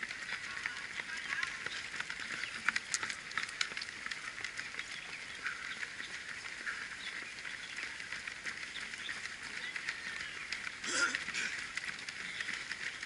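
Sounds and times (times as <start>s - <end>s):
running shoes slapping asphalt: 0.0s - 13.0s.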